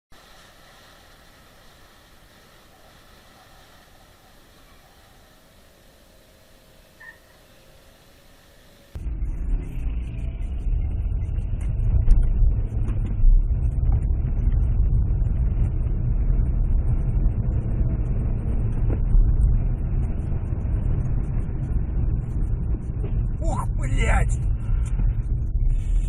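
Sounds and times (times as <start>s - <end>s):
car engine and road noise: 0.1s - 26.0s.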